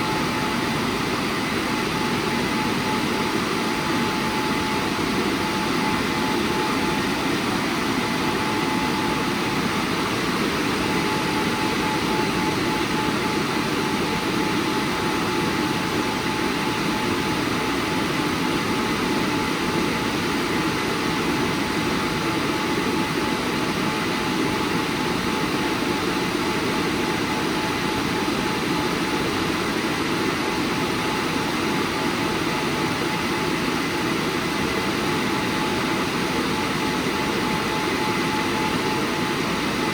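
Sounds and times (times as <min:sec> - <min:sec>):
faint constant whine: 0:00.0 - 0:39.9.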